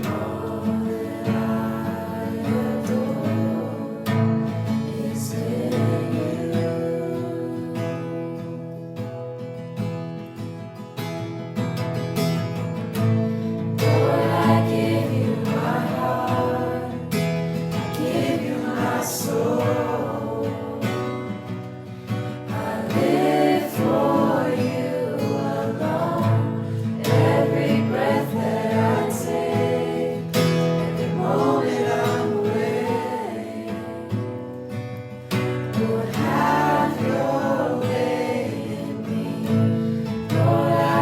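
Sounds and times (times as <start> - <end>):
group singing worship music: 0.0 - 9.1, 13.5 - 41.0
acoustic guitar strumming: 0.0 - 41.0.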